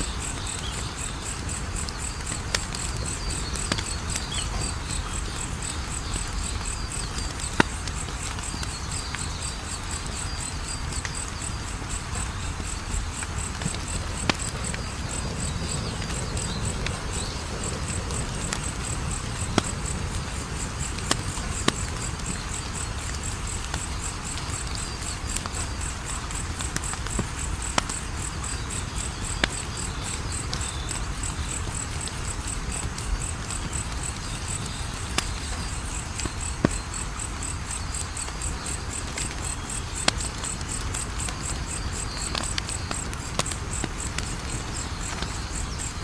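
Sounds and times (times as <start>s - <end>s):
cricket chirping: 0.0s - 46.0s
wood fire crackling: 0.0s - 46.0s.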